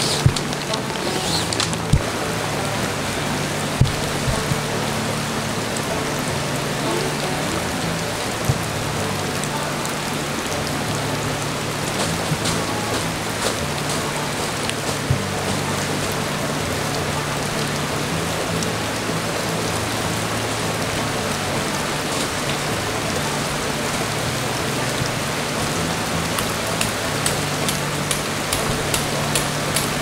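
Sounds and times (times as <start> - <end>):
soft background music: 0.0 - 30.0
steady rain hiss: 0.0 - 30.0.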